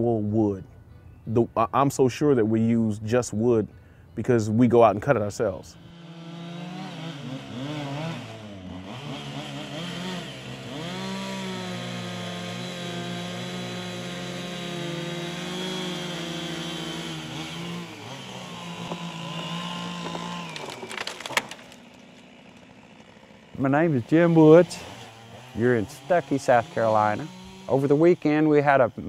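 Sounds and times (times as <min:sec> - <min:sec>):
chainsaw cutting logs: 0:05.6 - 0:29.0.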